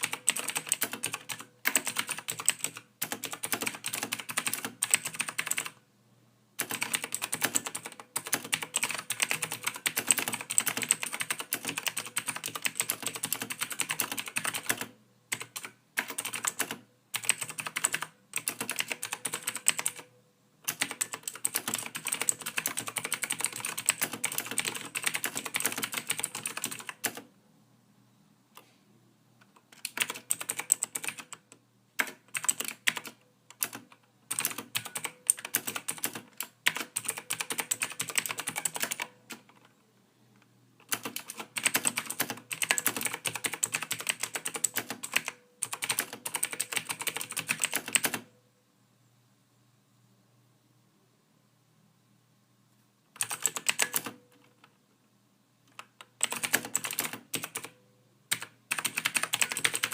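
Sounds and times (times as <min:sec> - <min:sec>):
computer keyboard typing: 0:00.0 - 0:05.8, 0:06.6 - 0:27.3, 0:29.4 - 0:39.7, 0:40.8 - 0:48.3, 0:53.2 - 0:54.7, 0:55.7 - 0:59.9.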